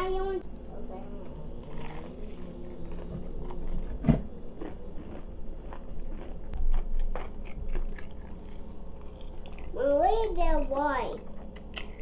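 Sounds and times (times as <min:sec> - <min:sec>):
chewing fried chicken: 0:01.2 - 0:12.0.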